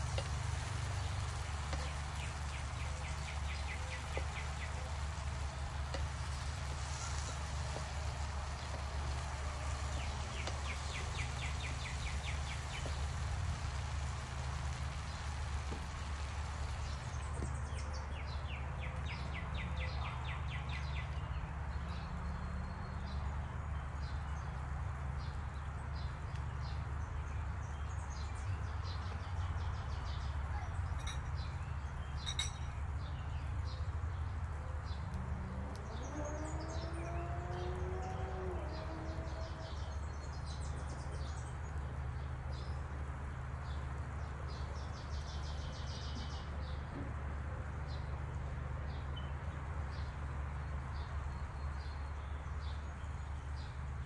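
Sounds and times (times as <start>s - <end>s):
birds chirping: 0.0s - 24.6s, 25.2s - 54.0s.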